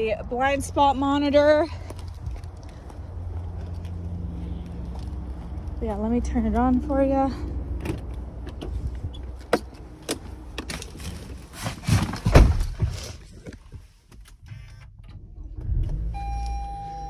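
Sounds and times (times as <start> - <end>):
car engine low hum: 0.0 - 11.5, 12.6 - 17.0.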